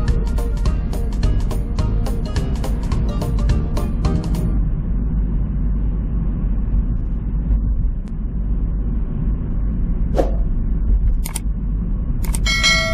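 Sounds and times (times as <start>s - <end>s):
car engine and tyre noise: 0.0s - 12.9s.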